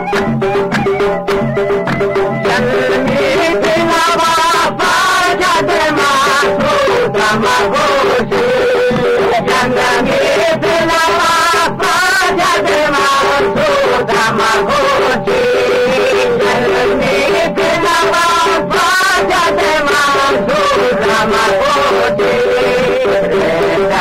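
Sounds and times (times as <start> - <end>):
folk music melody: 0.0 - 24.0.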